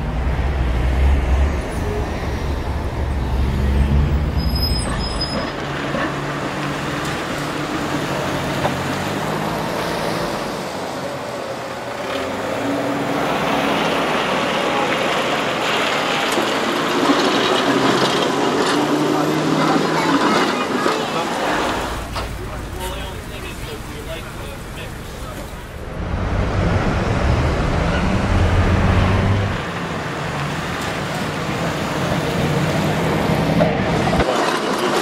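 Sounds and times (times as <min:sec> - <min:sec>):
heavy vehicle rumbling: 0:00.0 - 0:35.0
street traffic noise: 0:00.0 - 0:35.0.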